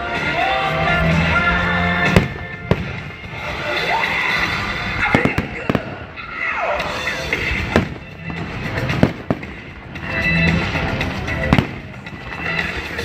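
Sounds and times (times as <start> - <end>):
background music: 0.0 - 13.0
fireworks bursting: 1.0 - 13.0.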